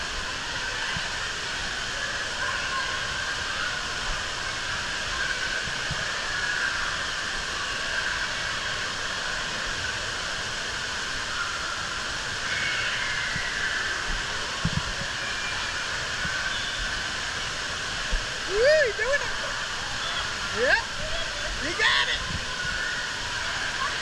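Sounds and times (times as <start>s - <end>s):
faint indistinct voices: 0.0s - 24.0s
running and splashing water: 0.0s - 24.0s.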